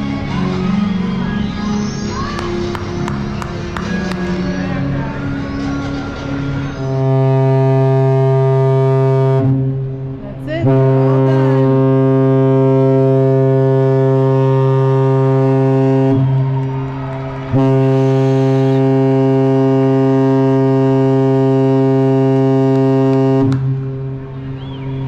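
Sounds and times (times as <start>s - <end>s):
ship horn blasts: 0.0s - 25.0s.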